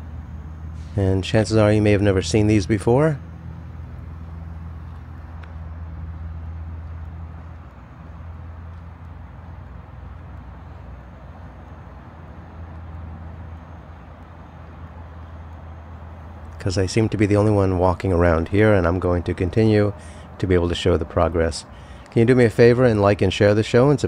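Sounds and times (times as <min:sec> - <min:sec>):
engine humming: 0:00.0 - 0:24.0
outdoor background noise: 0:00.0 - 0:24.0.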